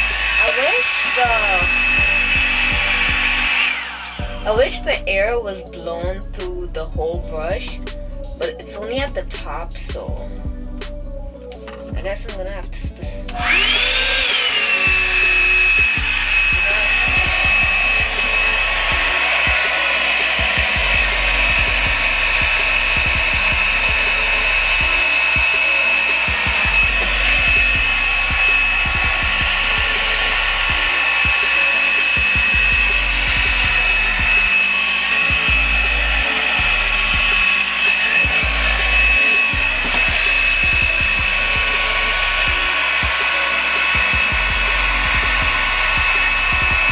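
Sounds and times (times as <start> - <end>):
hair dryer motor whine: 0.0 - 11.1, 12.8 - 46.9.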